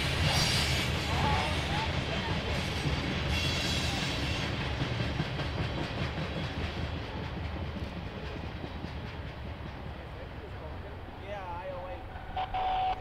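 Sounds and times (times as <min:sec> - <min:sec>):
train wheels clicking over rail joints: 0:00.0 - 0:10.7.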